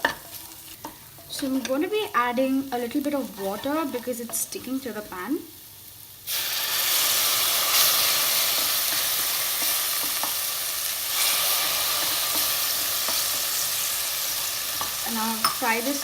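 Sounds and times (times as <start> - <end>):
onion paste sizzling in oil: 0.0 - 16.0.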